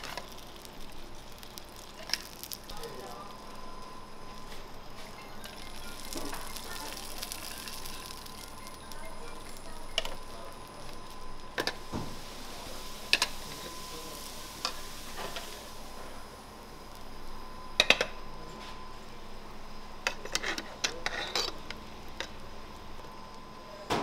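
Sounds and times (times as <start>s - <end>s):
food sizzling in trays: 0.0s - 23.8s.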